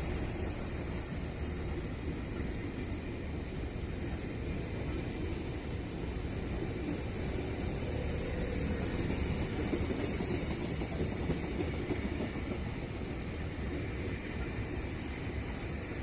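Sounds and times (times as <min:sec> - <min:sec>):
hiss: 0:00.0 - 0:03.0, 0:04.6 - 0:16.0
train wheels rumbling on track: 0:00.0 - 0:16.0.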